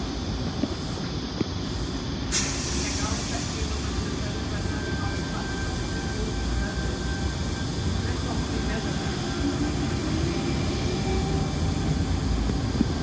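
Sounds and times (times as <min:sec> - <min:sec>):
air hissing: 0:00.0 - 0:13.0
electric train rumbling: 0:00.0 - 0:13.0.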